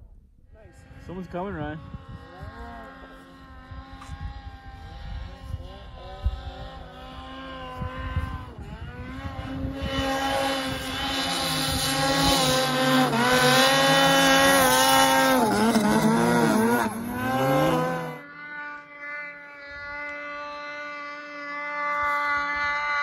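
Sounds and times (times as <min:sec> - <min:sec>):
snowmobile engine running hard: 0:00.5 - 0:23.0.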